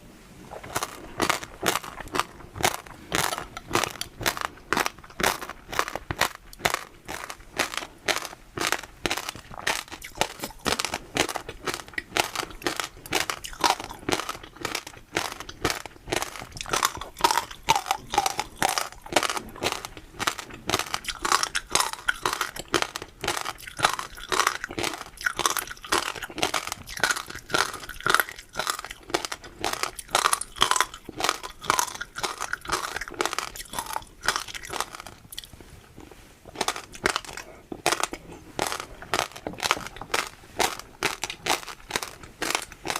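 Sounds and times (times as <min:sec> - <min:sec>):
food being crunched and chewed: 0:00.5 - 0:42.9.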